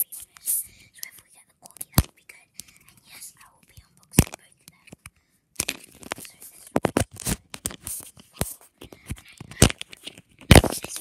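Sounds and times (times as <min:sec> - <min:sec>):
toy packaging crackling and scraping: 0:01.8 - 0:11.0.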